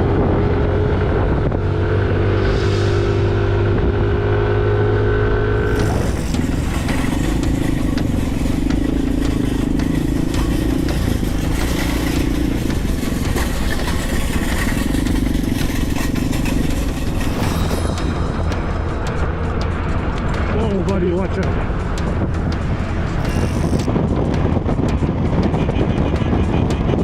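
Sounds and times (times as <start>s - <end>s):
motorcycle engine running: 0.0s - 27.0s
steady noise: 2.0s - 4.6s, 5.5s - 25.0s.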